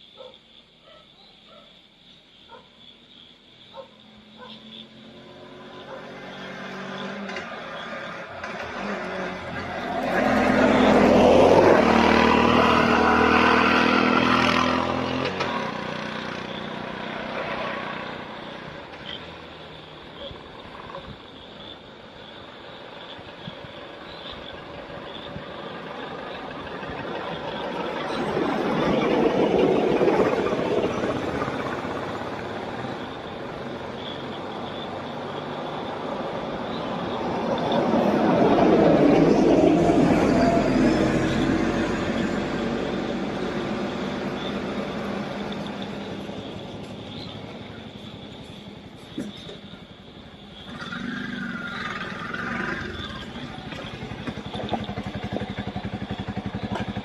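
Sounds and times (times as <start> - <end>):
auto-rickshaw engine running: 4.4 - 57.0.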